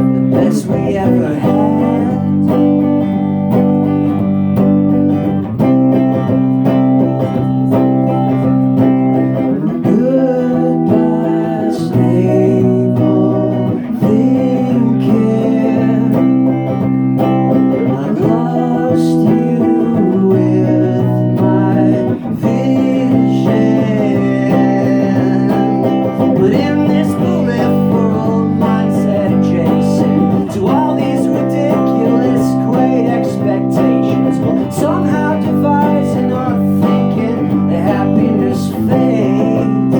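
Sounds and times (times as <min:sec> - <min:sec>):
guitar music: 0:00.0 - 0:39.9.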